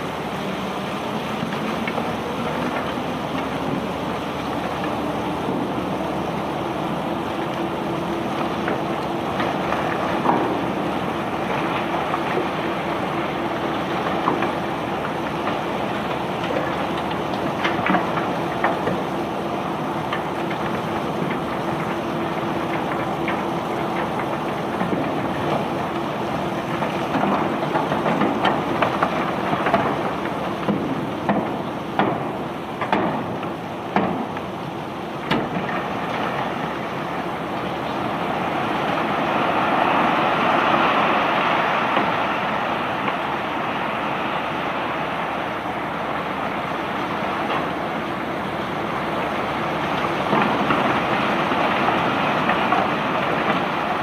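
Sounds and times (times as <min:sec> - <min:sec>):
conveyor belt rumbling: 0:00.0 - 0:54.0.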